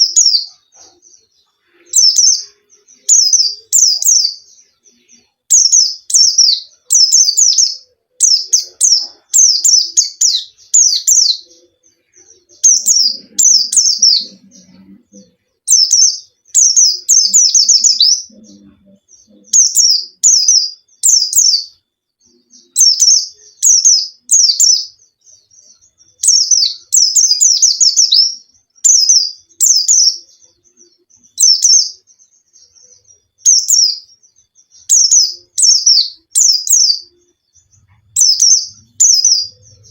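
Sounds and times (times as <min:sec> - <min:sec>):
bird high rapid chirping song: 0:00.0 - 0:39.9.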